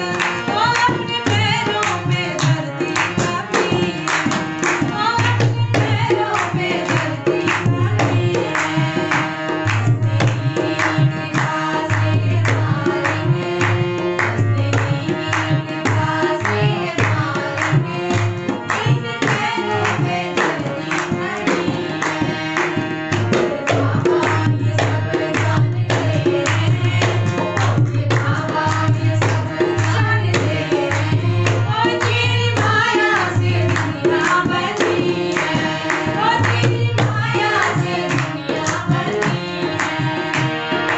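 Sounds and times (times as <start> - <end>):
hand clapping: 0.0 - 40.9
hand drum beating rhythm: 0.0 - 40.9
harmonium: 0.0 - 40.9
woman singing devotional song: 0.0 - 40.9.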